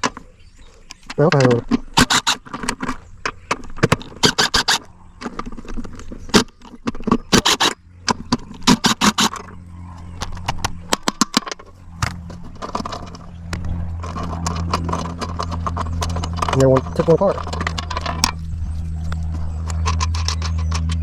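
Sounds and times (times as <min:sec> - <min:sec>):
steady low hum: 0:00.0 - 0:21.0
hand tools clicking on metal: 0:00.8 - 0:18.4.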